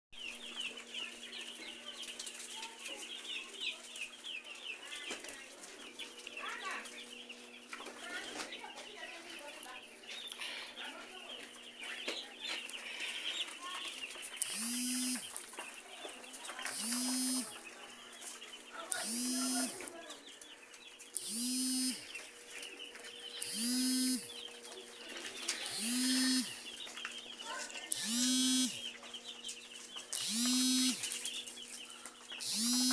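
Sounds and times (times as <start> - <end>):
chicks peeping: 0.2 - 32.9.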